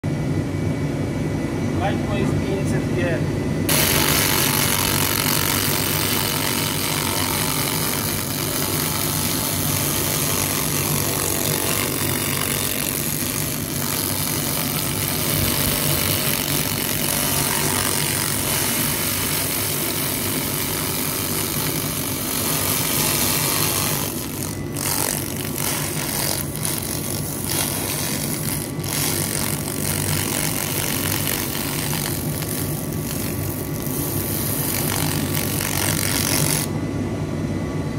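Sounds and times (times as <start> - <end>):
machine low hum: 0.0 - 37.9.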